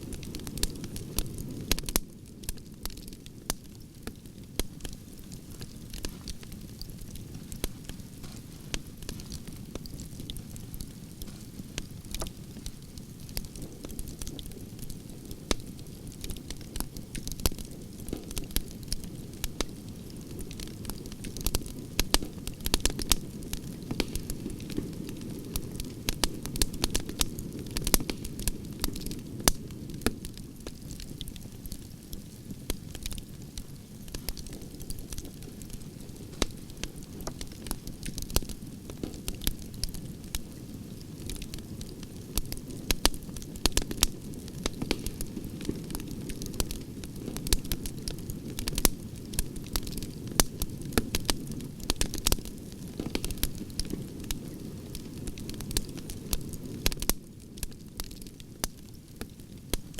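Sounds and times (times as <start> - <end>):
logs crackling and popping: 0.0 - 59.9
wood fire flames rumbling: 0.0 - 59.9.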